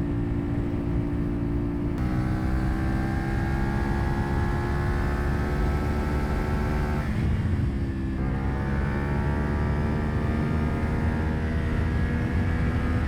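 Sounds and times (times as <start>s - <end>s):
motorcycle engine running: 0.1s - 12.5s.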